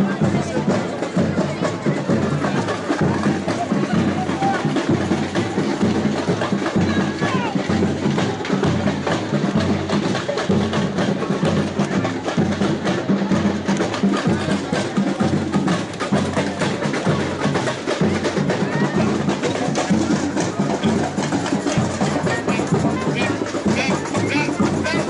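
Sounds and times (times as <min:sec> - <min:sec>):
drums and percussion beat: 0:00.0 - 0:25.0.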